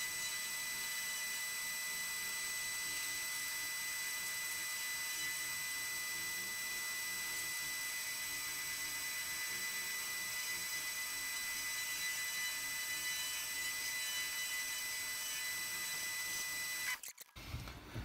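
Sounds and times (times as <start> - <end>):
metal lathe humming and whining: 0.0 - 17.0.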